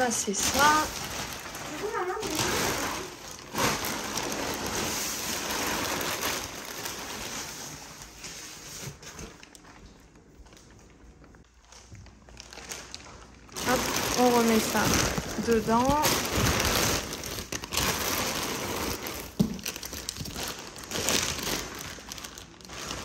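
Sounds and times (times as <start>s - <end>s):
plastic wrapping crinkling: 0.0s - 23.0s.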